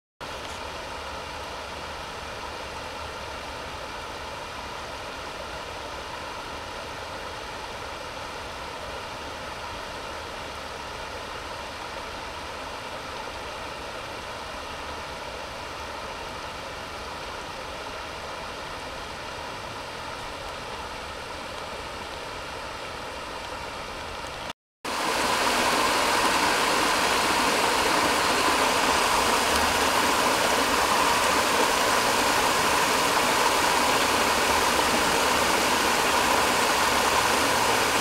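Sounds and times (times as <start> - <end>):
creek water cascading over rocks: 0.2 - 38.0.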